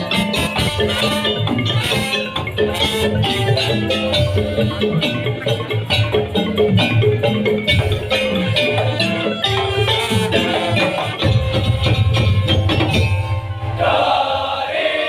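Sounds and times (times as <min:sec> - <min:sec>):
bamboo slit drums: 0:00.0 - 0:13.8
metallophone melody: 0:00.0 - 0:13.8
drums: 0:00.0 - 0:14.2.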